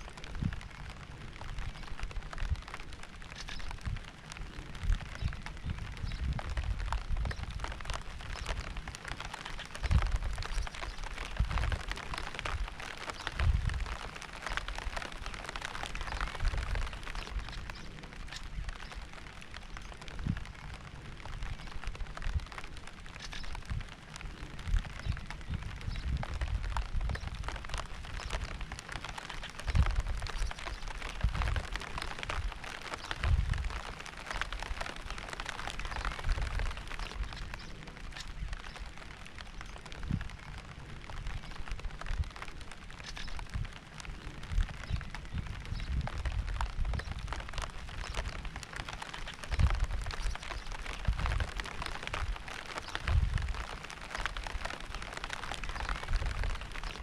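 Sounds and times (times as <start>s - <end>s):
raindrops clicking: 0.0s - 57.0s
steady rain: 0.0s - 57.0s.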